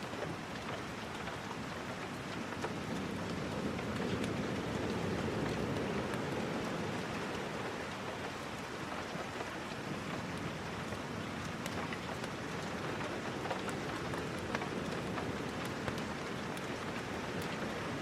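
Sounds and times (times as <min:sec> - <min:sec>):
sharp rain ticks: 0:00.0 - 0:18.0
steady rain hissing: 0:00.0 - 0:18.0.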